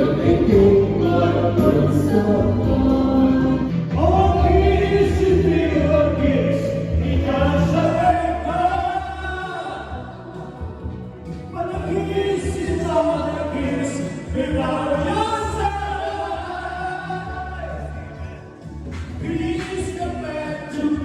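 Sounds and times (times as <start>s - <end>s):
live band playing: 0.0s - 21.0s
several voices singing pop song: 0.0s - 21.0s
steady bass line: 0.0s - 21.0s.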